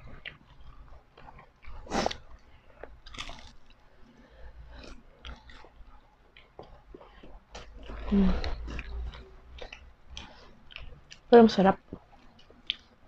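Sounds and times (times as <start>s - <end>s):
crunchy chewing: 0.0s - 11.3s, 11.9s - 13.0s.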